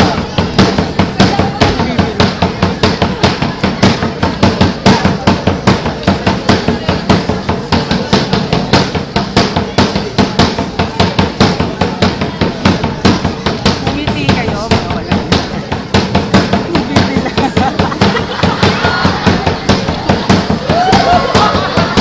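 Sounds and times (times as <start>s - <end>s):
drums beating fast rhythm: 0.0s - 22.0s.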